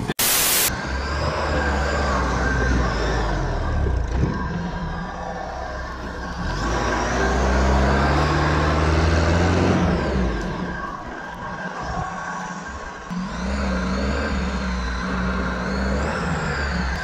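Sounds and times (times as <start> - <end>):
off-road vehicle engine revving: 0.7 - 11.3, 12.6 - 17.0
spinning tyres throwing dirt: 0.7 - 17.0.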